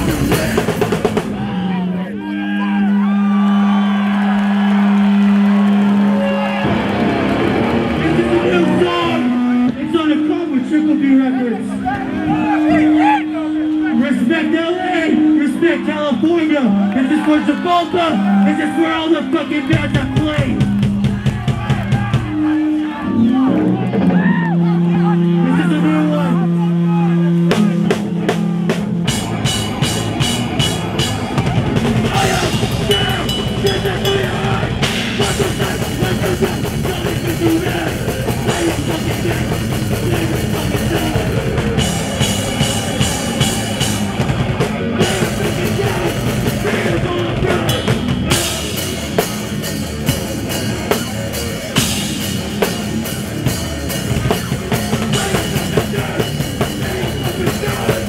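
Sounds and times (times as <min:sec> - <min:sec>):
punk band playing live: 0:00.0 - 0:58.0.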